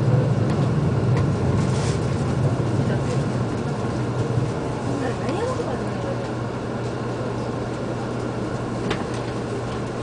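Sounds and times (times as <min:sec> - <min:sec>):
train cabin hum and rumble: 0:00.0 - 0:10.0.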